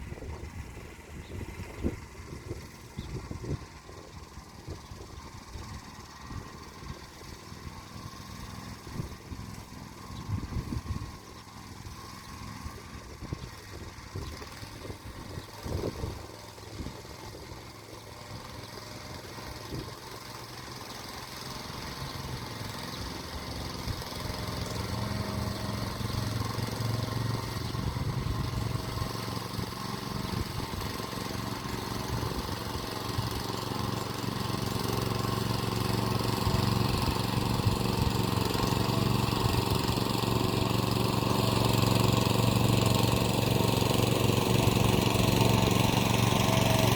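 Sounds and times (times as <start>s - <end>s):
tractor engine under load: 0.0s - 46.9s.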